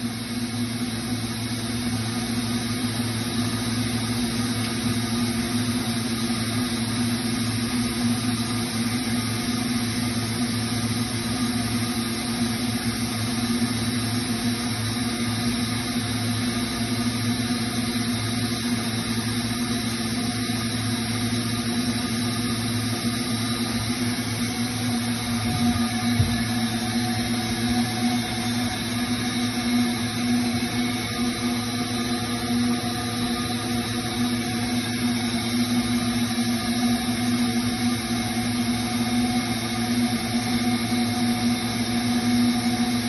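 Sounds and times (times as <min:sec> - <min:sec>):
machine motors and pumps humming: 0:00.0 - 0:43.0.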